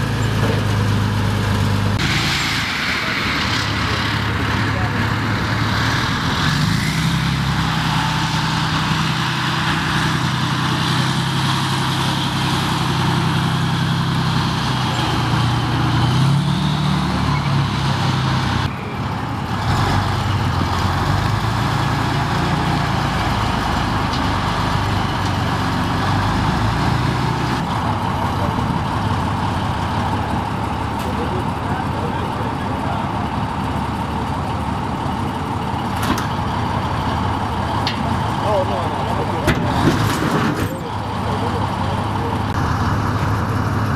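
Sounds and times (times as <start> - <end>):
tracked vehicle engine droning: 0.0 - 43.9.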